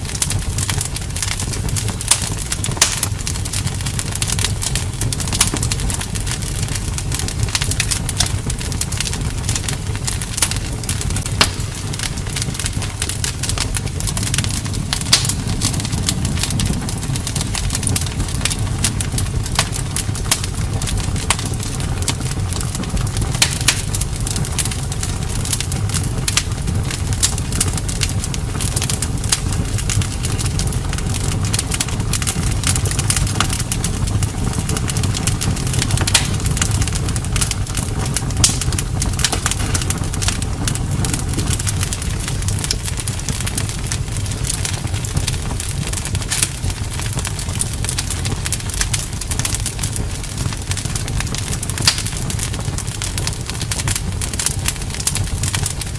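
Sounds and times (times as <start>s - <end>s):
campfire crackling and popping: 0.0s - 55.9s
low rumble of burning: 0.0s - 55.9s.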